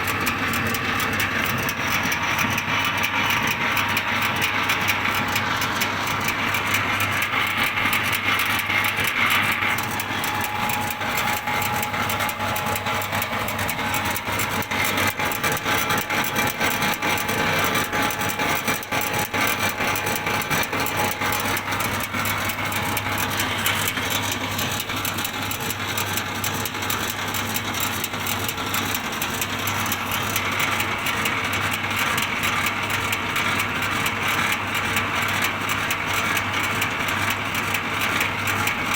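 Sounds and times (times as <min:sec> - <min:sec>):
pellet mill machine running: 0:00.0 - 0:38.9.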